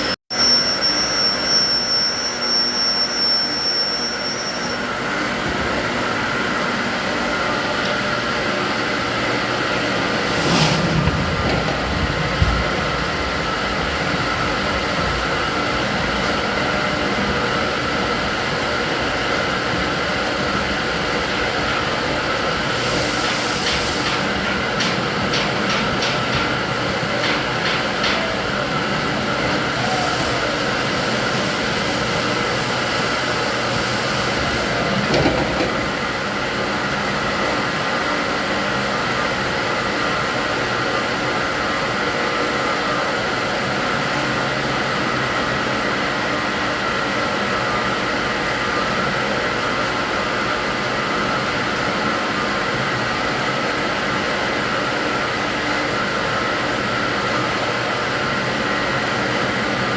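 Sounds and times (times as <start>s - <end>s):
mechanical humming noise: 0.0s - 59.9s.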